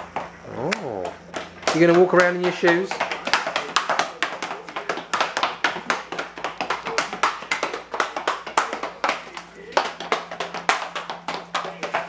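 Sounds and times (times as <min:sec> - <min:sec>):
loose shoes clacking on tile floor: 0:00.0 - 0:12.0.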